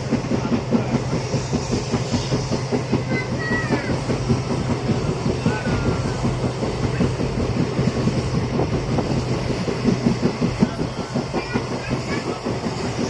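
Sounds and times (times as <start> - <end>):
train rumble and hum: 0.0 - 13.0
train wheels rattling and clattering: 0.0 - 13.0.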